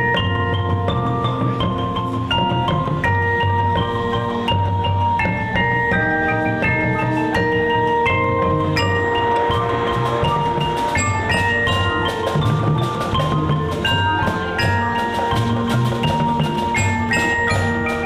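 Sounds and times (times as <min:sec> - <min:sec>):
mallet percussion melody: 0:00.0 - 0:18.0
marching band playing: 0:00.0 - 0:18.0.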